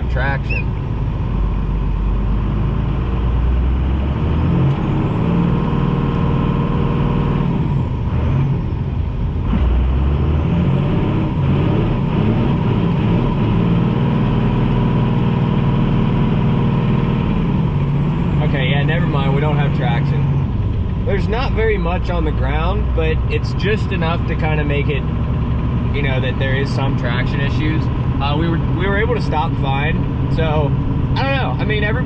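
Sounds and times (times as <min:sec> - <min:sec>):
diesel pickup engine pulling: 0:00.0 - 0:32.0.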